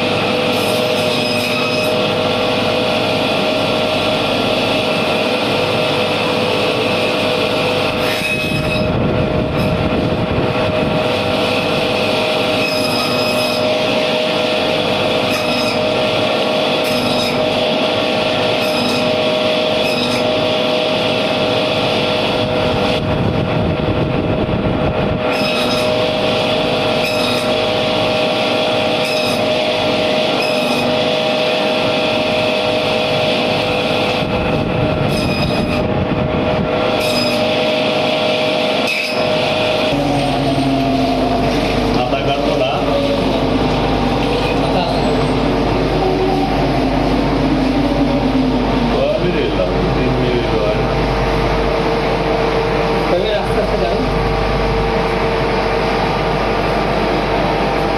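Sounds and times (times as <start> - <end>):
band saw whining: 0.0 - 57.9.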